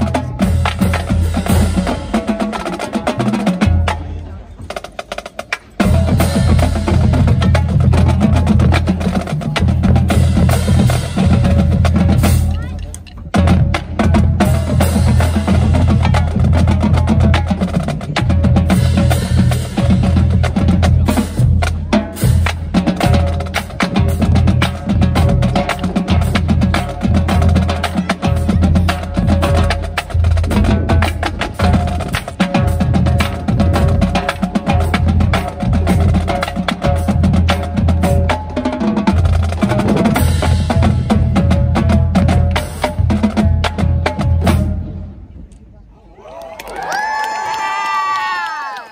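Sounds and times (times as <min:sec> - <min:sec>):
drumline playing cadence: 0:00.0 - 0:45.5.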